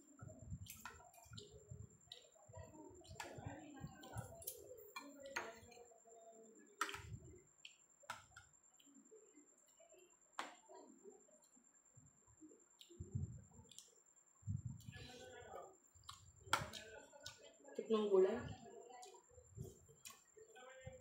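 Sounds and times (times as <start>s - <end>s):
soft chewing: 0.0s - 17.8s, 18.5s - 21.0s.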